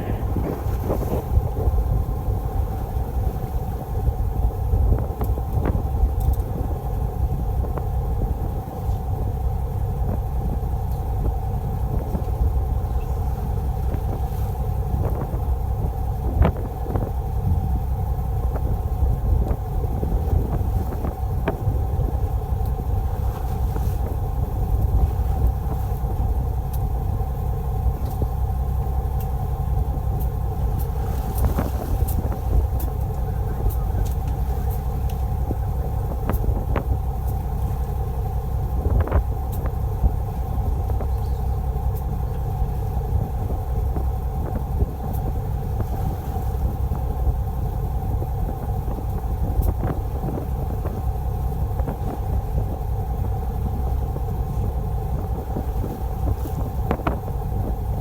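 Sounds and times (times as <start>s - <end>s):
boat engine rumbling: 0.0s - 58.0s.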